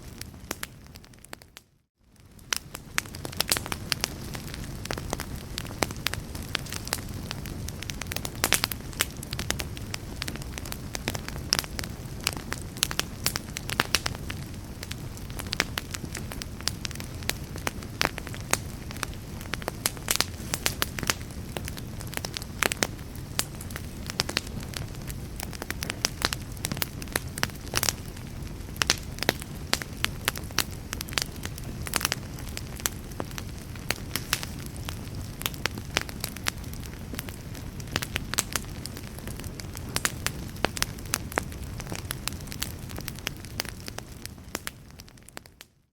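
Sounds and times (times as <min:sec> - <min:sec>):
fire crackling and popping: 0:00.0 - 0:45.8
fire rumbling: 0:00.0 - 0:45.8.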